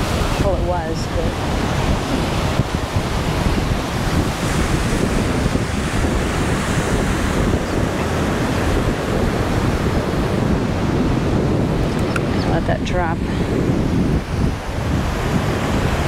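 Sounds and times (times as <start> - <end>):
ocean surf breaking: 0.0 - 16.0
wind blowing across microphone: 0.0 - 16.0.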